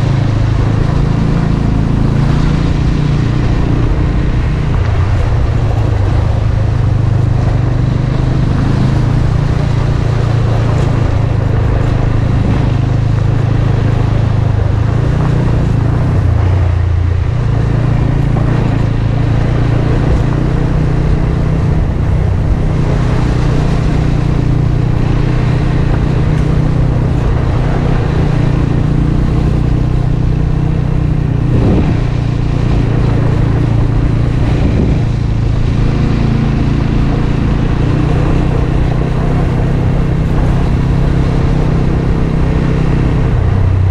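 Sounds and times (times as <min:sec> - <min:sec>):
motorcycle engine running: 0:00.0 - 0:43.9
rushing noise: 0:00.0 - 0:43.9.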